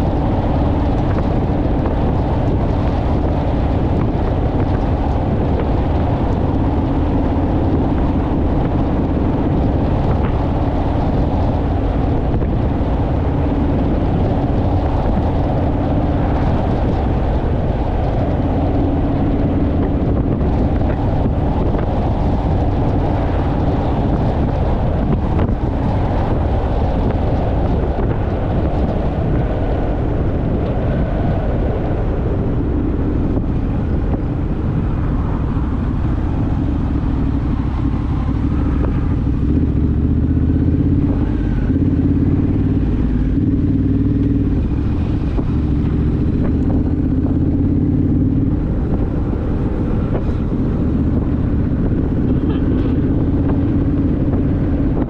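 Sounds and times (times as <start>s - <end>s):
motorcycle engine cruising: 0.0s - 55.0s
wind buffeting microphone: 0.0s - 55.0s.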